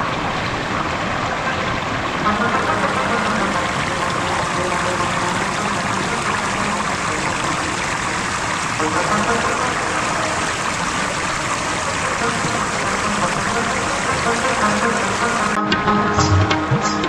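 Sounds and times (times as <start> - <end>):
river rushing over boulders: 0.0 - 15.6.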